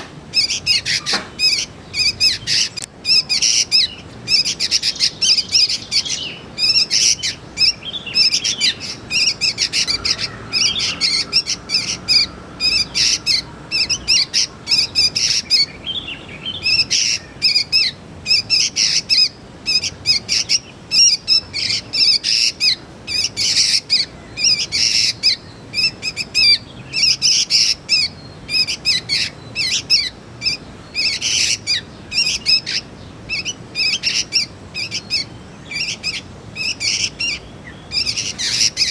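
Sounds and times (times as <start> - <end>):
bird high chirps: 0.0 - 38.9.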